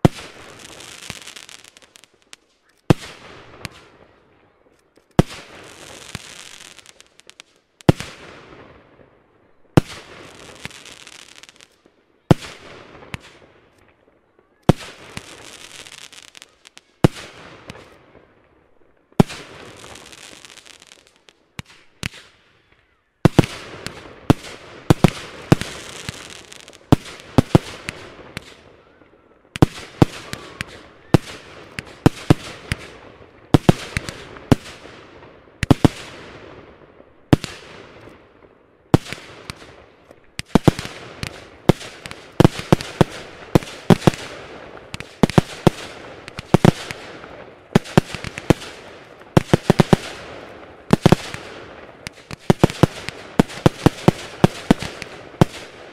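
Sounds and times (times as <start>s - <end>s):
fireworks crackle: 0.0s - 9.1s, 9.7s - 55.9s
fireworks bangs: 0.0s - 18.4s, 19.0s - 55.9s.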